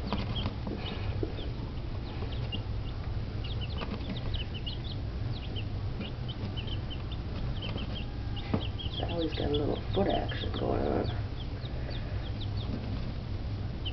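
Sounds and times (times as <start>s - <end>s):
chicks peeping: 0.0s - 13.9s
steady low hum: 0.0s - 13.9s.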